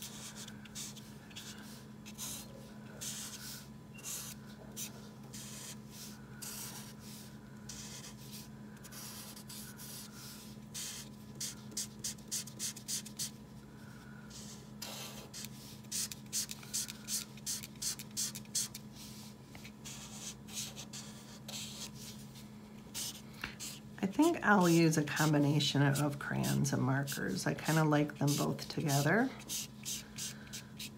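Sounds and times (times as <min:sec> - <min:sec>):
marker scratching on paper: 0:00.0 - 0:13.4, 0:14.3 - 0:22.2, 0:22.9 - 0:30.9.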